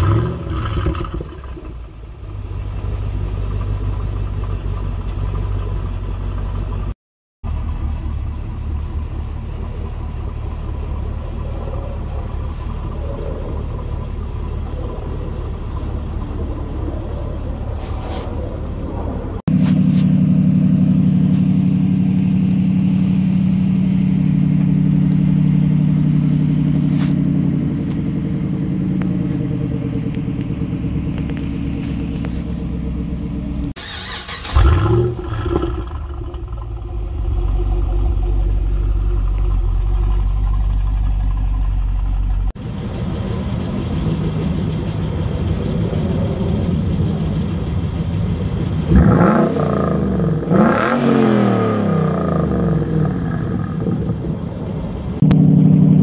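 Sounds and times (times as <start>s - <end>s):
engine revving: 0.0s - 1.8s, 10.4s - 41.6s, 42.5s - 56.0s
car engine idling: 0.0s - 56.0s.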